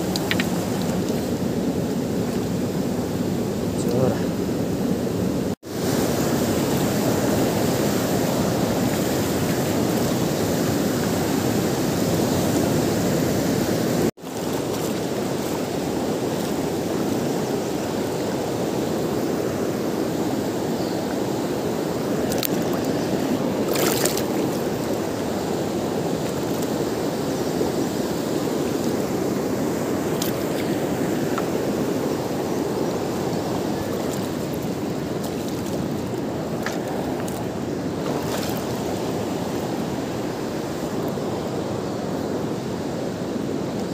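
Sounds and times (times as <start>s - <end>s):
river current rushing: 0.0s - 43.9s.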